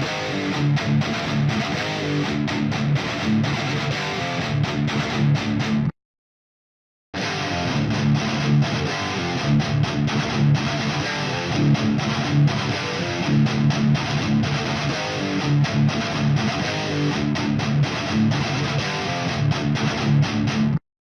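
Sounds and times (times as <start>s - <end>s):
electric guitar riff: 0.0s - 5.9s, 7.2s - 20.8s.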